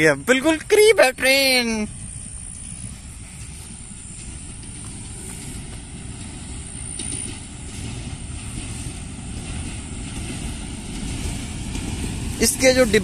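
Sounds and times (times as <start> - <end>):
diesel train rumble: 0.0 - 13.0.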